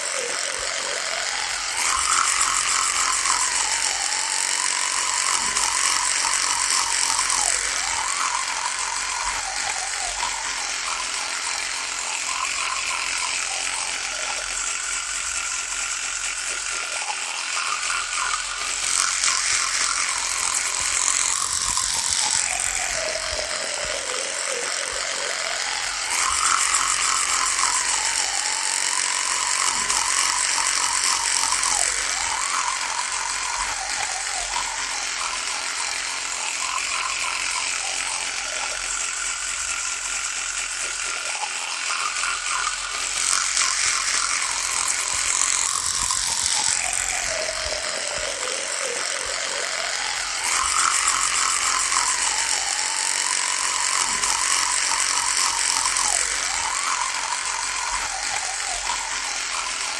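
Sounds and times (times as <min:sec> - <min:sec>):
electric toothbrush buzzing: 0:00.0 - 0:59.9.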